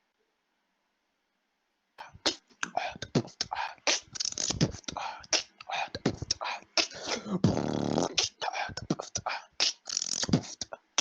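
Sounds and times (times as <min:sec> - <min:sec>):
beatboxing: 0:02.0 - 0:11.0.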